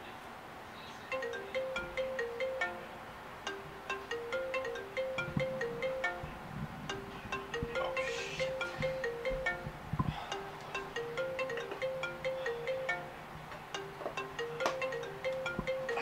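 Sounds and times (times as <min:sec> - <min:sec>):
marimba phone alarm melody: 0:01.1 - 0:16.0.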